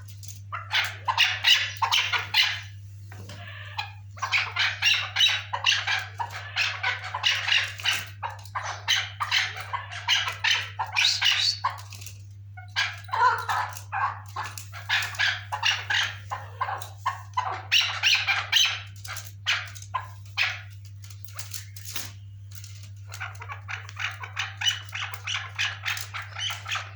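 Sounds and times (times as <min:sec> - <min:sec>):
partridge clucking calls: 0:00.0 - 0:26.9
steady low hum: 0:00.0 - 0:26.9.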